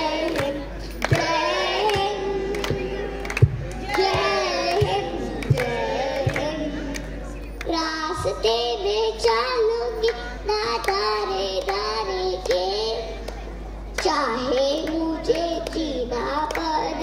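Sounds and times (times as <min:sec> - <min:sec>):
girl singing into microphone: 0:00.0 - 0:06.7, 0:07.6 - 0:13.2, 0:14.0 - 0:17.0.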